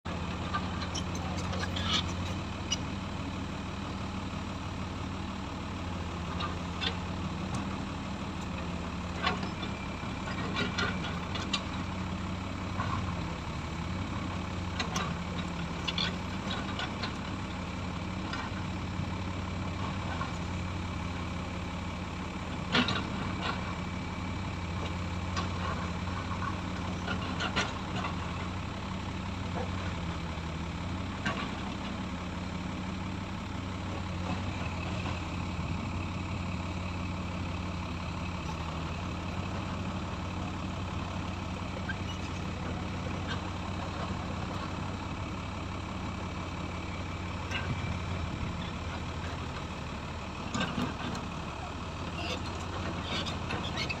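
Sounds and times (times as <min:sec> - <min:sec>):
loader engine humming: 0:00.1 - 0:54.0.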